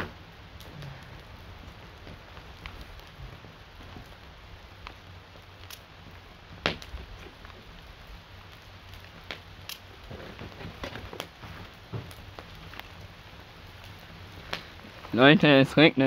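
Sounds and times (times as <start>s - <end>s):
campfire crackling: 0.0s - 16.0s
faint steady hiss: 0.0s - 16.0s
rain falling: 0.0s - 16.0s.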